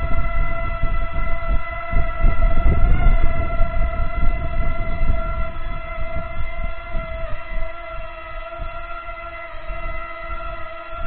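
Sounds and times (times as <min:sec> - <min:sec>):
drone propeller whine: 0:00.0 - 0:11.0
uneven low rumble: 0:00.0 - 0:11.0.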